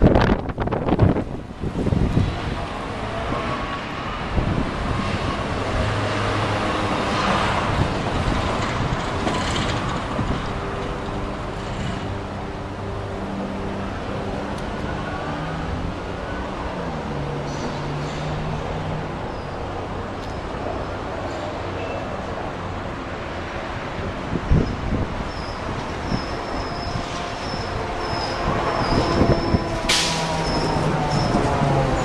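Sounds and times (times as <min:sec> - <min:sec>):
passing vehicles rushing: 0:00.0 - 0:32.0.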